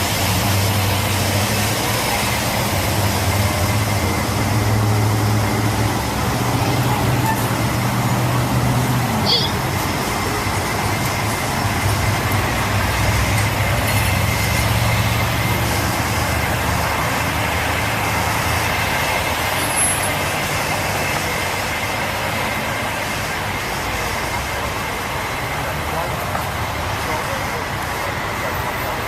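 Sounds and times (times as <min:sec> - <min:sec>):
outdoor urban background noise: 0:00.0 - 0:29.0.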